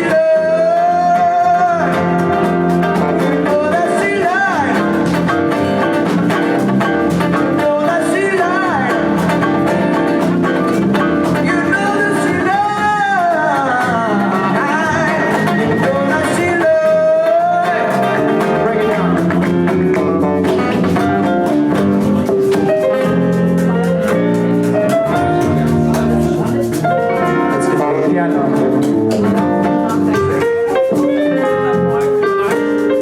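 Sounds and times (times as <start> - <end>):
lead guitar bending notes: 0.0 - 33.0
live band playing: 0.0 - 33.0.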